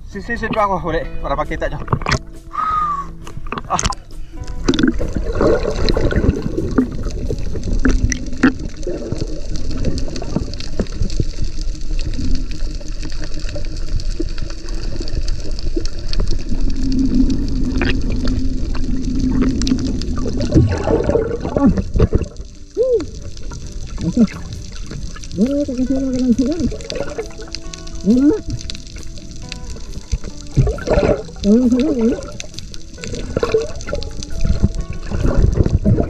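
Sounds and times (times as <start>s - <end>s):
muffled underwater bubbling: 1.8s - 36.0s
low rumble: 3.1s - 33.8s.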